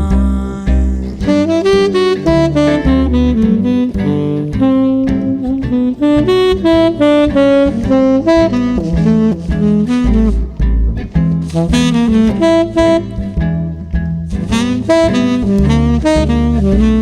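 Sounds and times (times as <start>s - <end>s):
instrumental jazz ballad: 0.0s - 17.0s.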